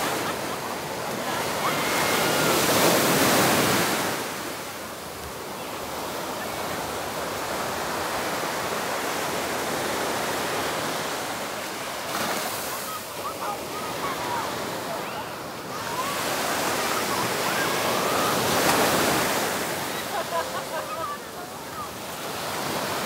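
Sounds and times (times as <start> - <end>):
surf washing onto beach: 0.0 - 23.0.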